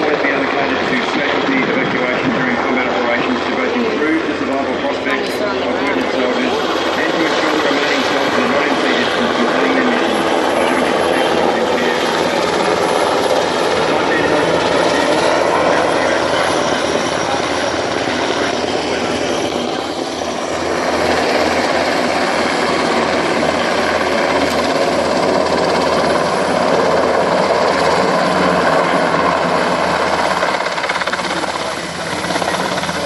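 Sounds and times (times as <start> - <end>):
helicopter rotor and turbine: 0.0 - 33.0.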